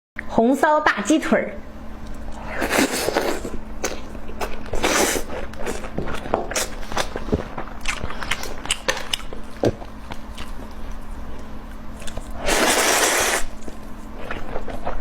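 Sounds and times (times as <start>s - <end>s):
person chewing food: 2.1s - 15.0s.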